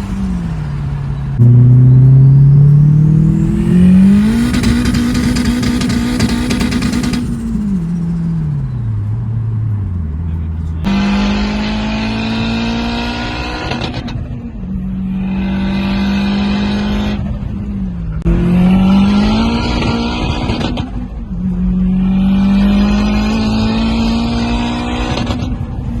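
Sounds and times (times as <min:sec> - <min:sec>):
turbocharged engine revving: 0:00.0 - 0:14.3, 0:18.2 - 0:25.6.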